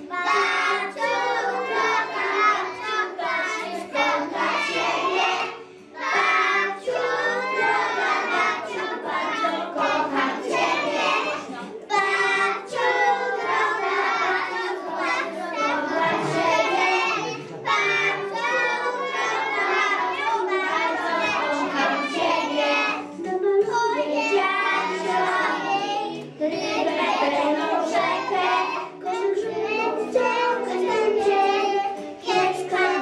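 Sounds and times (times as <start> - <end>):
young children singing: 0.0 - 33.0.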